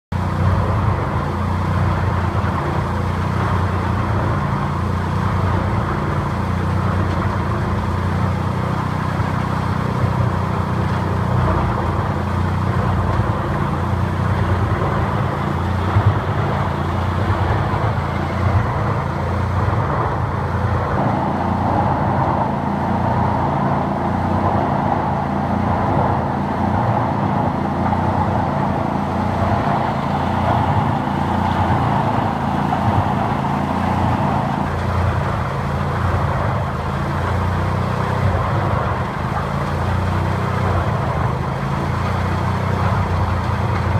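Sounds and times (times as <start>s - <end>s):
woodchipper chipping logs: 0.1s - 43.9s.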